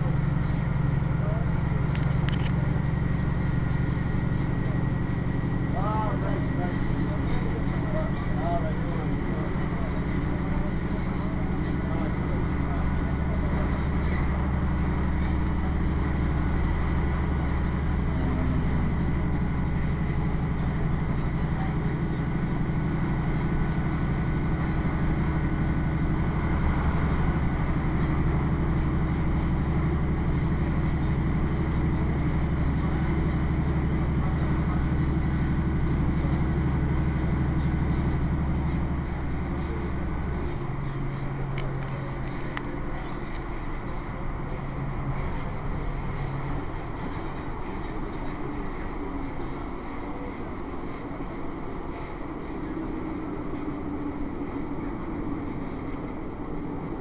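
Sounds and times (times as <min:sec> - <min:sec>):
train engine drone: 0:00.0 - 0:57.0
wheels rumbling on track: 0:00.0 - 0:57.0.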